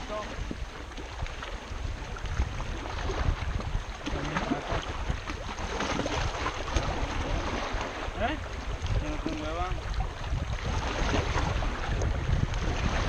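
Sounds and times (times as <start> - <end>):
water lapping against rocks: 0.0 - 13.0
wind buffeting microphone: 0.0 - 13.0.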